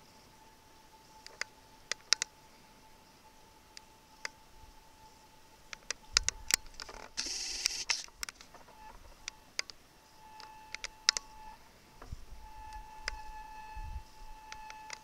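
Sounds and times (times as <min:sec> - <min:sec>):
faint electronic tone: 0:00.0 - 0:15.0.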